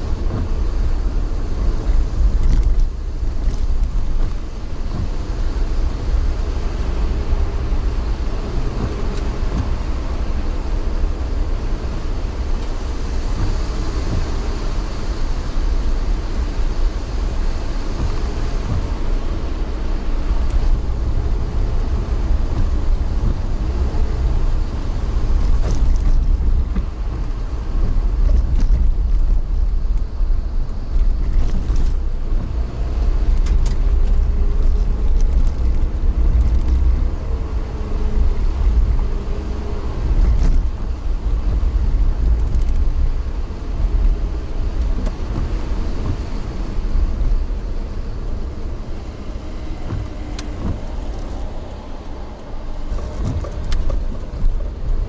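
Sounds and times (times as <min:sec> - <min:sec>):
vehicle running rumble: 0:00.0 - 0:55.0.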